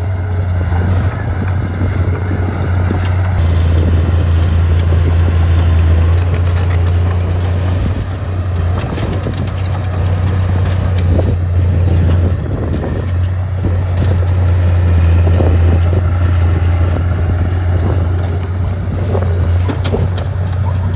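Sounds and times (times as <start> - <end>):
diesel machine engine drone: 0.0 - 20.9
knocks and clanks: 0.0 - 20.9.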